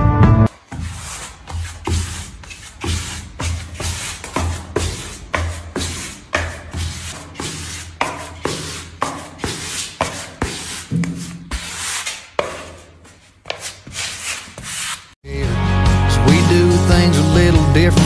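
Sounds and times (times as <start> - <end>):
sanding block rasping on tile: 0.5 - 15.2.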